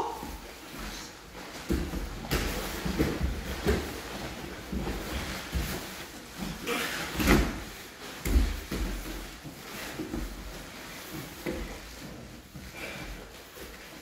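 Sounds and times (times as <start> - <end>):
cloth rustling: 0.1 - 14.0
bodies thudding on mats: 0.2 - 14.0.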